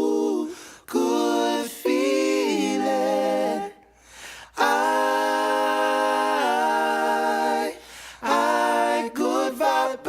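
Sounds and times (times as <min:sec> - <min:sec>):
a cappella voices singing: 0:00.0 - 0:10.0.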